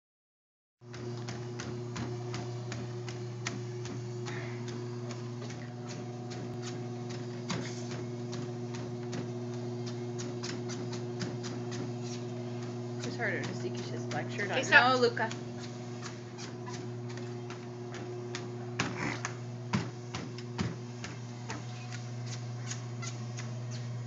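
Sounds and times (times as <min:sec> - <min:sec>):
low electrical hum: 0:00.8 - 0:24.0.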